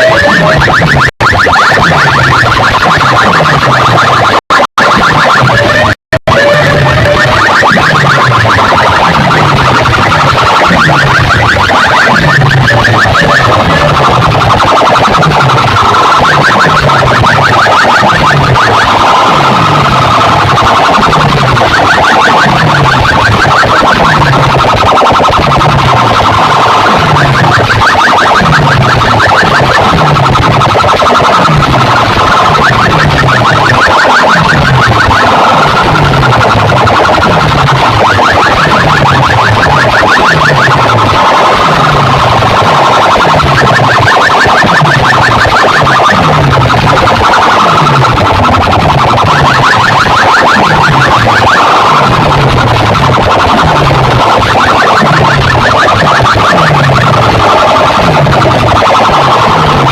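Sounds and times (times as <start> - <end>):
distorted siren-like electronic music: 0.0 - 59.9
falling bass sweep: 0.0 - 59.9
fast warbling chirps: 0.0 - 59.9.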